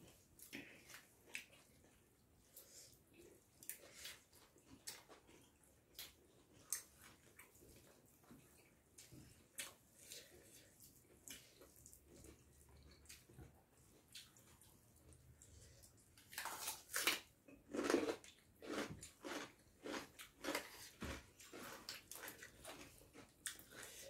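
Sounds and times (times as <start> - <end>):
wet chewing and mouth sounds: 0.0 - 24.0.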